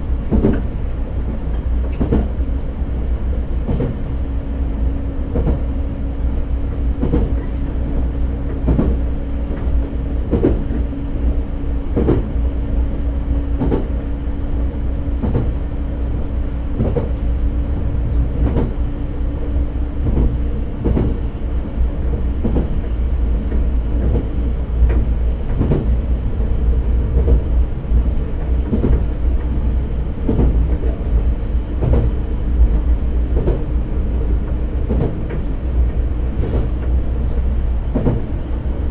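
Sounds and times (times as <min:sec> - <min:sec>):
railcar rumble and drone: 0:00.0 - 0:38.9.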